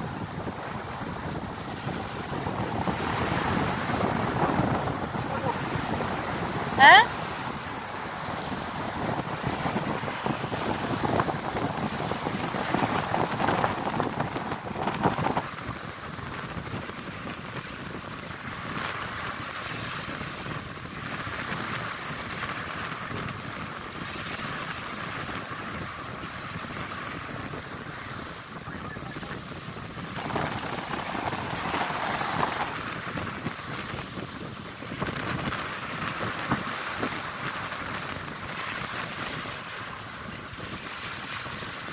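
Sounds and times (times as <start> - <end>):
small surf washing on sand: 0.0 - 41.9
wind buffeting microphone: 0.0 - 41.9.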